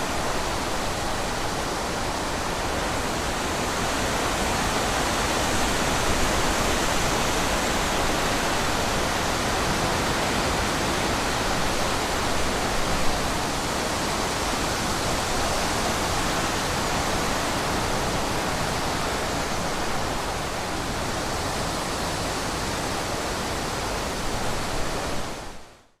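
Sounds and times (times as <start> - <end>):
wind through forest trees: 0.0 - 26.0.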